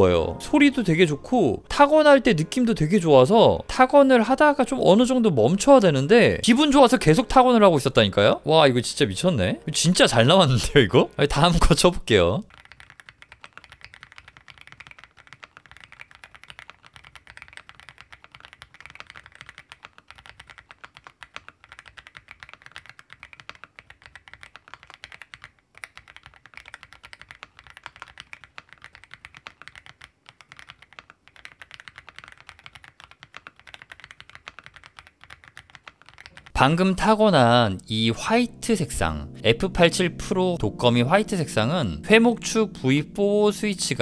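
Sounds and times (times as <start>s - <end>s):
mechanical keyboard typing: 0.5s - 38.8s.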